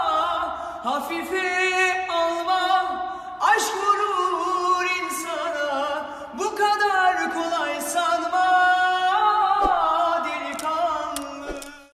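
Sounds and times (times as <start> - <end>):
young man singing unaccompanied: 0.0 - 11.9.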